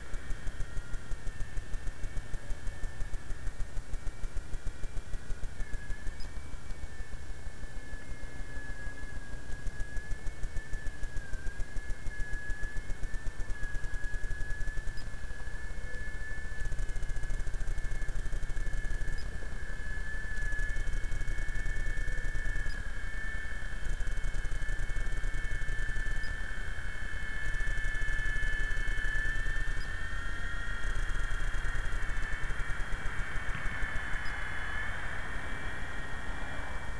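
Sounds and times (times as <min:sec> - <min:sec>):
fast rhythmic low buzz: 0:00.0 - 0:36.9
rc helicopter rotors whining: 0:00.0 - 0:36.9.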